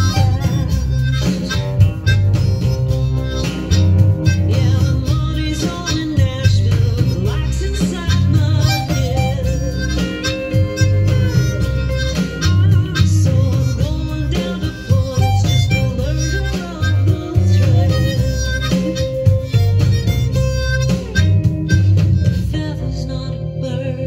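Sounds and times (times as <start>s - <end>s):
harmonica solo: 0.0s - 23.8s
guitar: 0.0s - 24.0s
rhythmic bass line: 0.0s - 24.0s.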